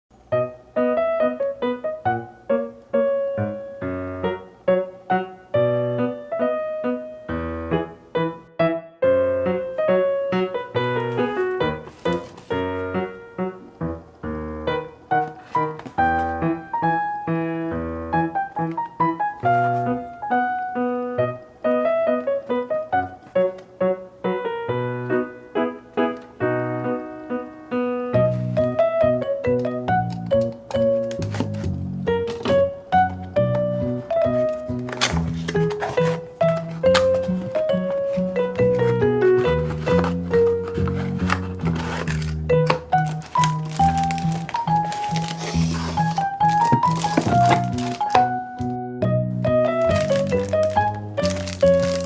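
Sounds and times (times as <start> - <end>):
light piano melody: 0.1 - 52.0.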